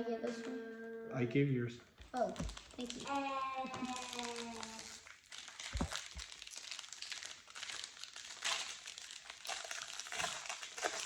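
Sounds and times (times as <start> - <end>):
plastic wrapper crinkling: 2.0 - 11.0.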